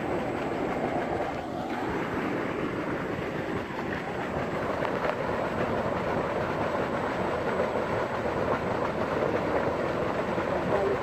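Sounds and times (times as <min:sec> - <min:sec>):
water jet gushing and splashing: 0:00.0 - 0:11.0.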